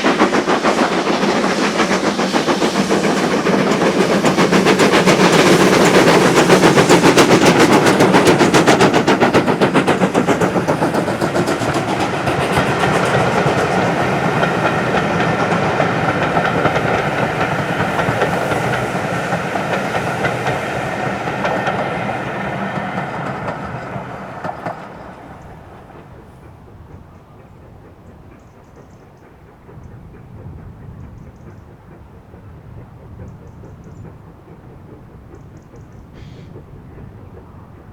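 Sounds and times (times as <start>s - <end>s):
clattering train wheels: 0.0s - 37.9s
steam locomotive exhaust beats: 0.0s - 37.9s.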